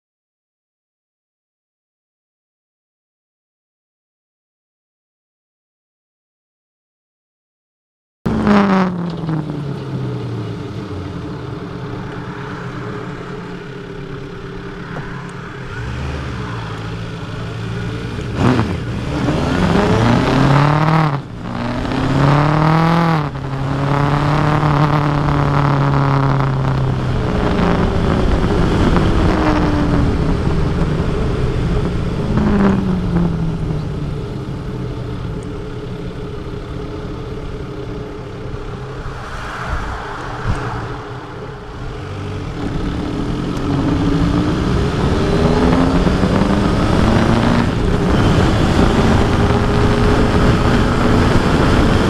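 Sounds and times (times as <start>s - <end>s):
motorcycle engine revving: 8.3s - 52.0s.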